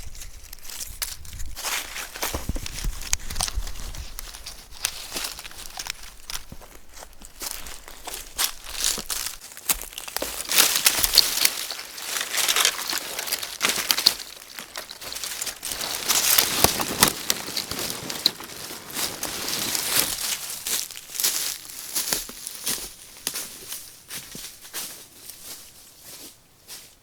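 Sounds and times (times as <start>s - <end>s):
rustling and crinkling: 0.0s - 27.0s.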